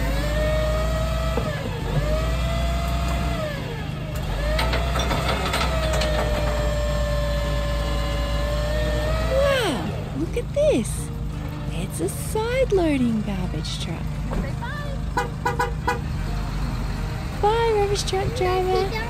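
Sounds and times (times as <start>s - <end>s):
diesel engine whining: 0.0s - 19.0s.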